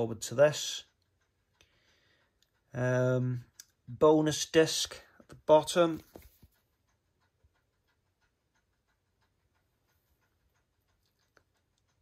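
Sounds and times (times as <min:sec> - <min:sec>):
faint regular ticking: 0:00.0 - 0:12.0.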